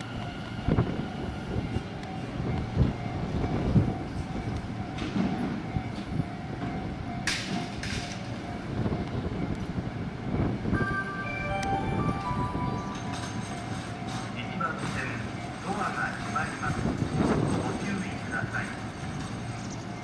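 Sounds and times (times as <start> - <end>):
electric train running by: 0.0 - 20.0.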